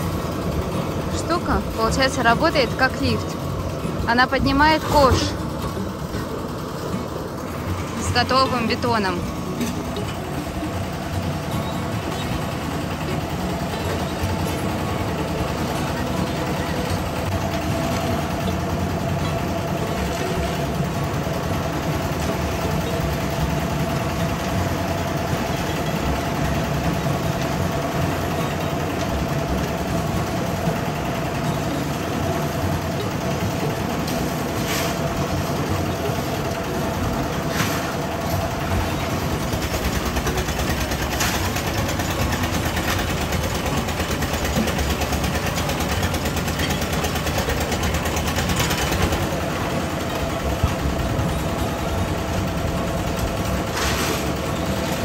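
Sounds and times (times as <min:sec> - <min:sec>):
concrete mixer engine running: 0:00.0 - 0:55.0.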